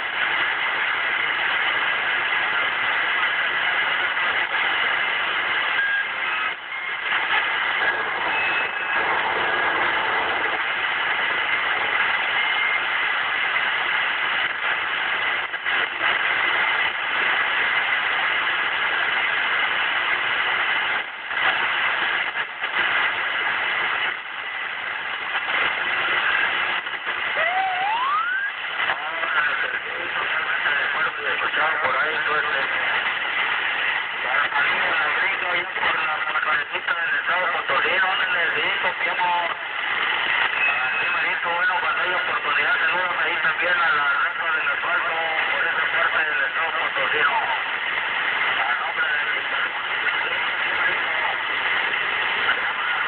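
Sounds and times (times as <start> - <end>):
radio hiss and static: 0.0 - 53.0.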